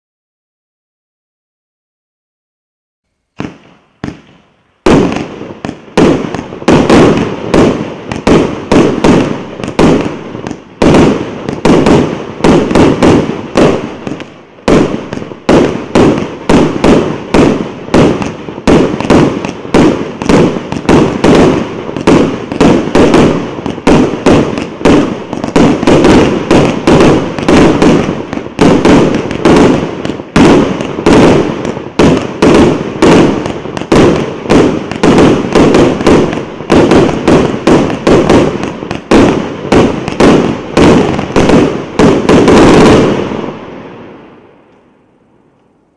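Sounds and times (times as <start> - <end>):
firework hiss: 3.2 - 44.3
fireworks bangs: 3.3 - 45.6
faint firework pops: 3.4 - 43.5.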